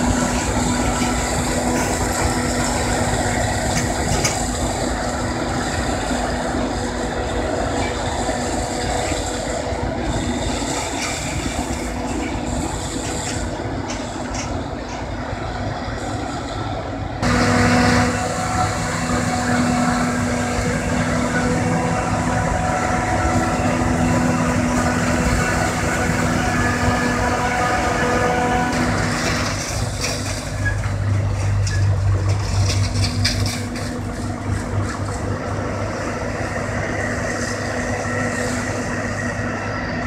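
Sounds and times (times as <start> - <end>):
forage harvester engine humming: 0.0 - 40.0
tractor hauling trailer: 0.0 - 40.0.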